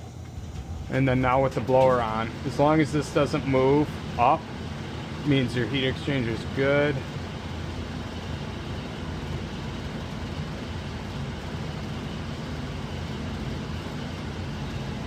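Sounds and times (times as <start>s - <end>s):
furnace humming and rushing air: 0.0s - 15.0s.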